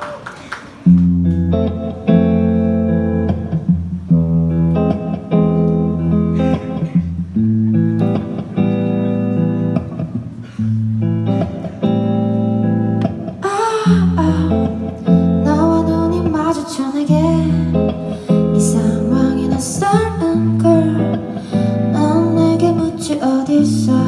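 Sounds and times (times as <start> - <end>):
guitar chords: 0.8 - 24.0.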